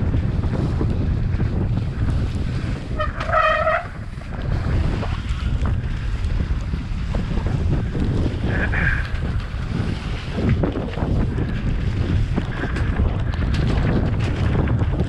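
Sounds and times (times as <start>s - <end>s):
bike knocking and rattling: 0.0s - 15.0s
bike tyres rumbling on dirt: 0.0s - 15.0s
wind buffeting microphone: 0.0s - 15.0s.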